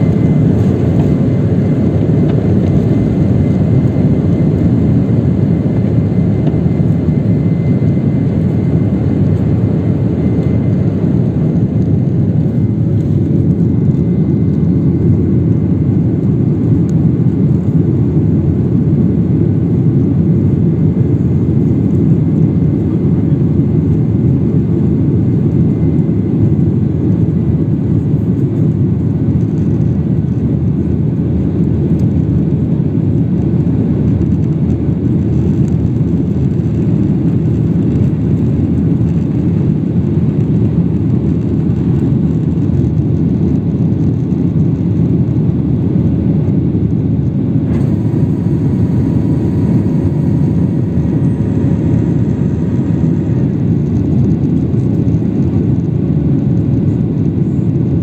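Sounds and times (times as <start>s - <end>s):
jet engines rumbling in cabin: 0.0s - 58.0s.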